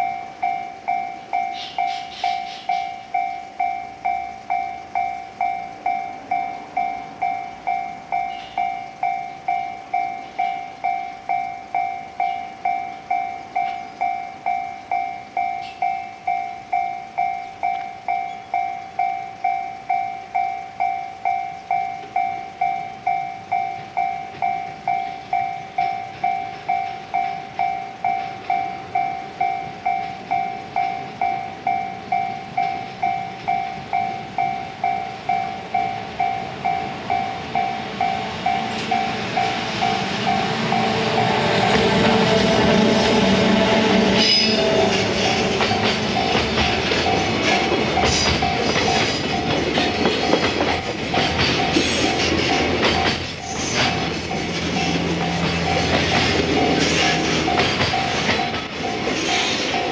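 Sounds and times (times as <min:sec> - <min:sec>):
level crossing bell ringing: 0:00.0 - 0:41.8, 0:44.2 - 0:59.9
train running rumble: 0:00.0 - 0:59.9.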